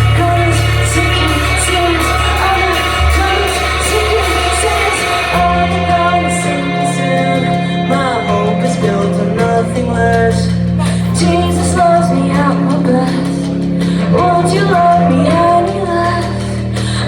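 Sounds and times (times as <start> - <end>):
live rock band playing: 0.0 - 17.0
woman singing: 0.0 - 17.0.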